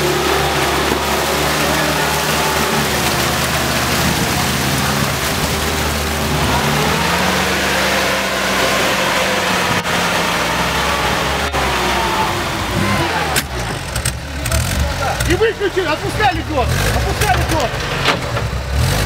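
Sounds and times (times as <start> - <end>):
churned mud and water: 0.0 - 19.0
off-road engines under load: 0.0 - 19.0.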